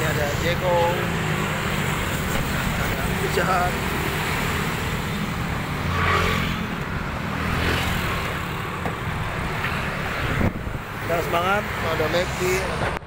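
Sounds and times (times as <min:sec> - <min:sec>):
car engine and road rumble: 0:00.0 - 0:13.0
town traffic: 0:00.0 - 0:13.0.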